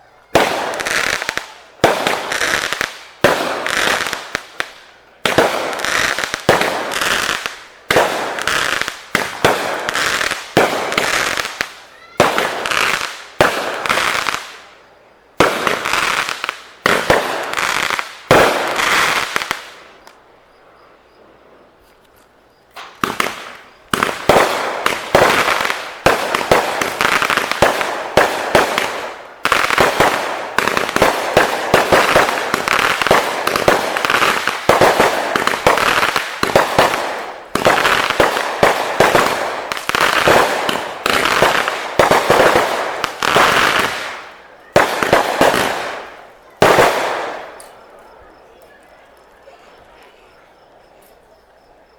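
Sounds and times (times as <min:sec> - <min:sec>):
fireworks crackling: 0:00.0 - 0:20.3, 0:21.5 - 0:51.9
fireworks banging: 0:00.3 - 0:14.7, 0:15.4 - 0:20.2, 0:22.7 - 0:50.3.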